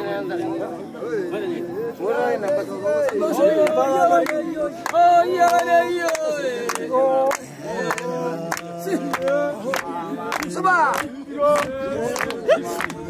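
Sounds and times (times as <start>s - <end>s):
men chanting a cappella: 0.0s - 13.0s.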